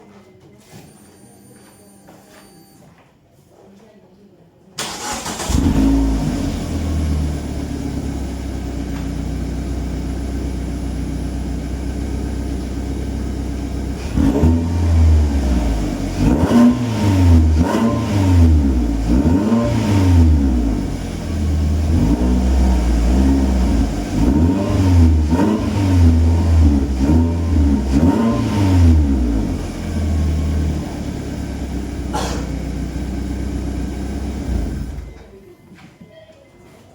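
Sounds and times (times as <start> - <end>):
car engine exhaust idling and revving: 5.4 - 35.2.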